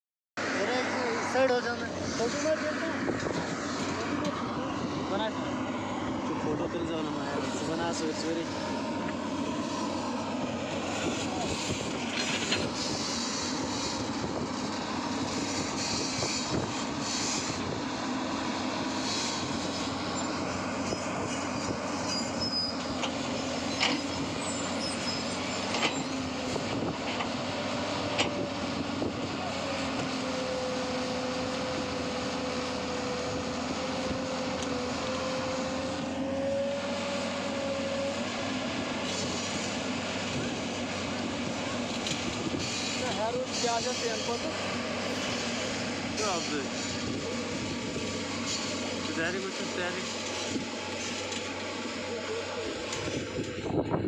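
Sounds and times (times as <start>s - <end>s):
vehicle rumble: 0.4s - 54.0s.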